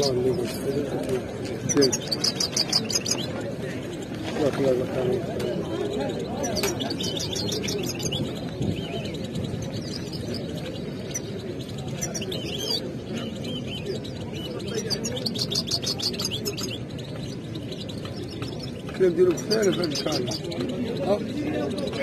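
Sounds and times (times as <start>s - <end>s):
finches chirping and trilling: 0.0s - 22.0s
murmur of market crowd: 0.0s - 22.0s.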